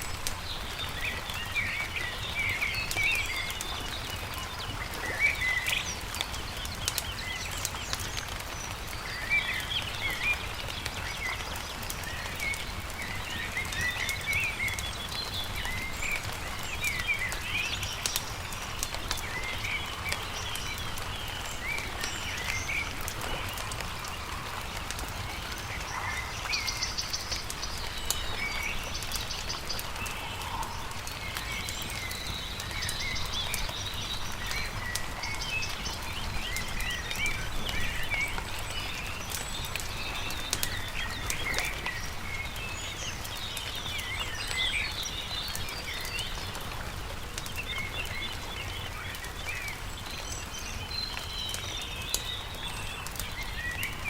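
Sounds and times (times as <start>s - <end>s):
campfire crackling: 0.0s - 54.0s
songbirds chirping: 0.0s - 54.0s.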